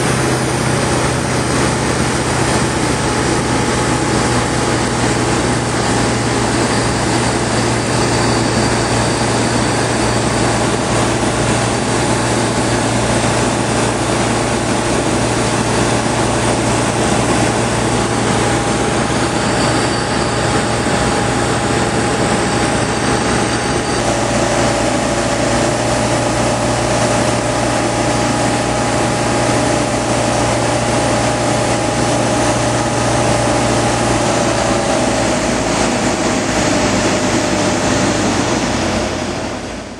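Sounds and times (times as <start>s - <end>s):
aircraft engine and propeller drone: 0.0s - 39.9s
rushing air: 0.0s - 39.9s.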